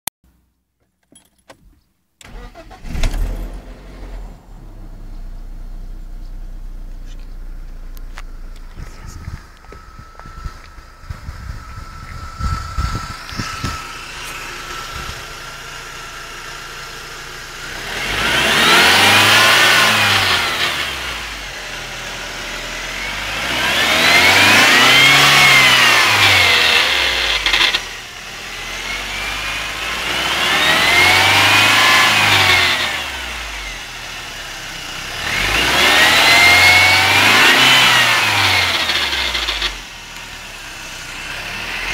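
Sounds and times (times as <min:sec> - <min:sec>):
strange engine noise: 0:01.2 - 0:41.9
car engine revving: 0:02.2 - 0:41.9.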